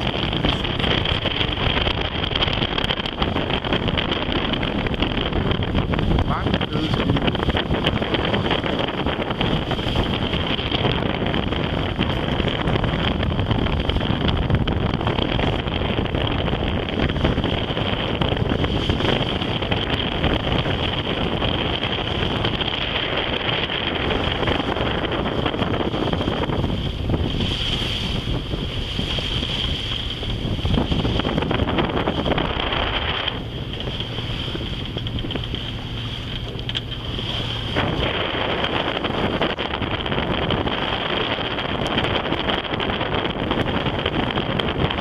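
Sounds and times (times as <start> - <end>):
water washing along hull: 0.0 - 45.0
wind buffeting microphone: 0.0 - 45.0.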